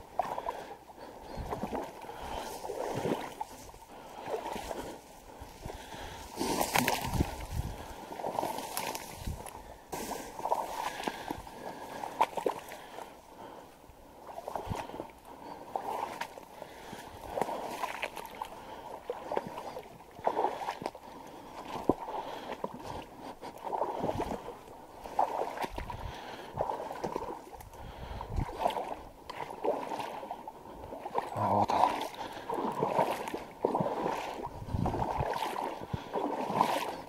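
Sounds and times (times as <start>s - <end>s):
water sloshing and splashing: 0.0s - 13.6s, 14.2s - 37.0s.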